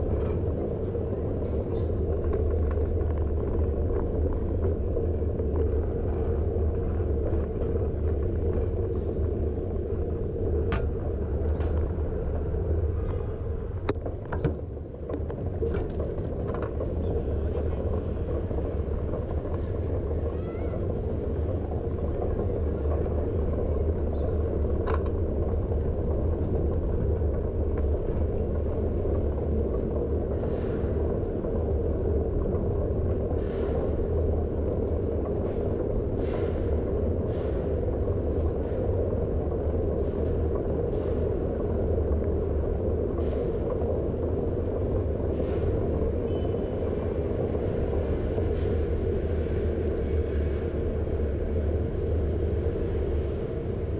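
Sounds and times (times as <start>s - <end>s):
road vibration: 0.0s - 53.9s
wind rumble: 0.0s - 53.9s.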